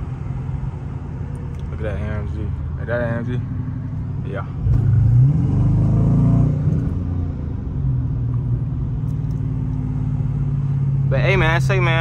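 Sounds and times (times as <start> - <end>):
car engine drone from inside cabin: 0.0 - 12.0.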